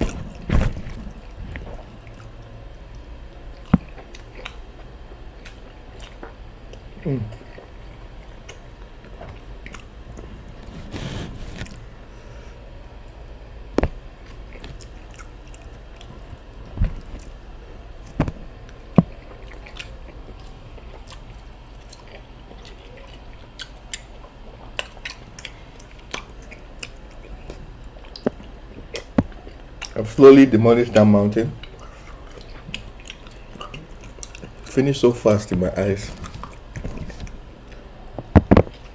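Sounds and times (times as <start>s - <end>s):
person chewing food: 0.0s - 12.4s, 13.0s - 30.0s, 31.6s - 34.8s, 35.8s - 38.9s.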